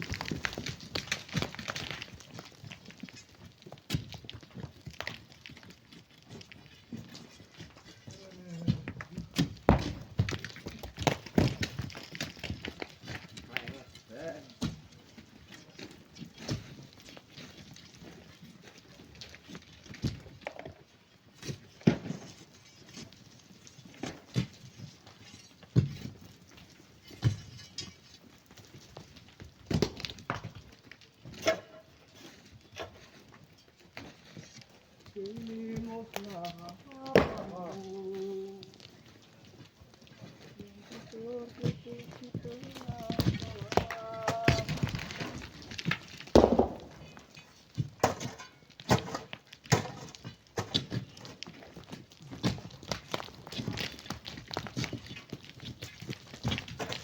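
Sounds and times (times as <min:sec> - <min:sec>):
rock and sand clattering: 0:00.0 - 0:57.0.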